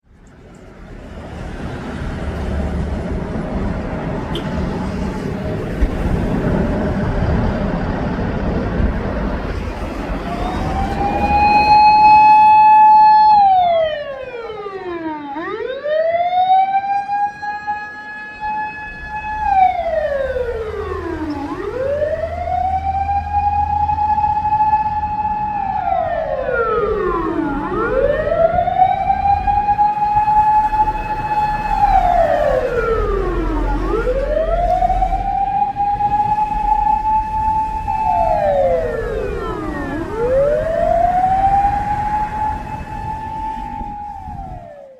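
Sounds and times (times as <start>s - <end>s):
fire engine siren wailing: 0.9s - 44.9s.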